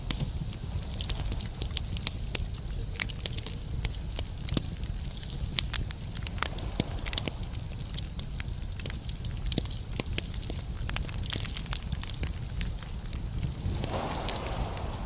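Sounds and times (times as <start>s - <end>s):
logs crackling in fireplace: 0.0s - 15.0s
low rumble of flames: 0.0s - 15.0s.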